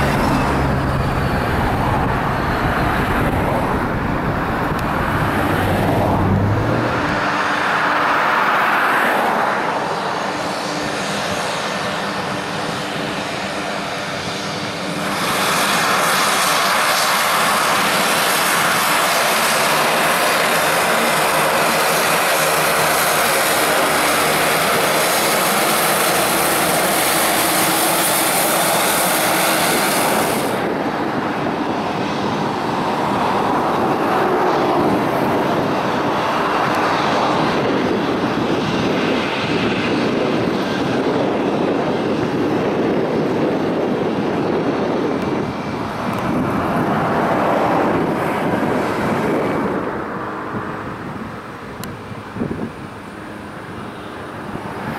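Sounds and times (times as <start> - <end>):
jet engines on runway: 0.0 - 54.9
turboprop engines at high power: 0.0 - 54.9.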